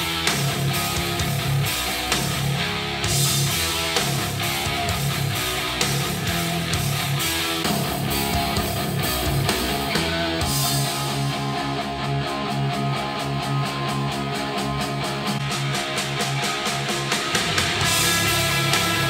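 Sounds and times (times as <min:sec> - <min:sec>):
guitar rock music through speakers: 0:00.0 - 0:19.0.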